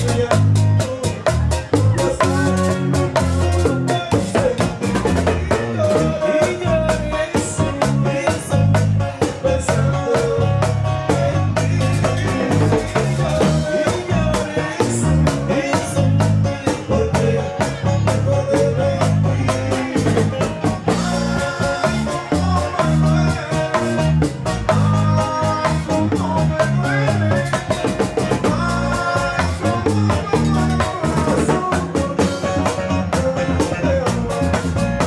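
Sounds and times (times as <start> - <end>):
band music with drum beat: 0.0 - 35.0.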